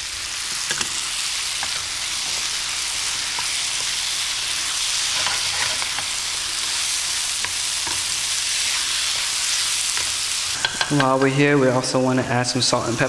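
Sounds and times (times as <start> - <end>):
food sizzling in a frying pan: 0.0 - 13.0
wooden spoon scraping a pan: 0.7 - 11.4.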